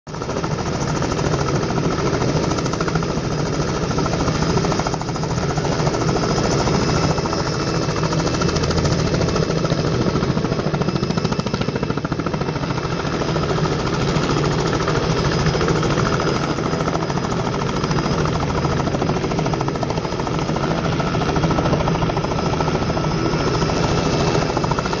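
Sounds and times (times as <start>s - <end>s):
helicopter rotor beating: 0.1s - 25.0s.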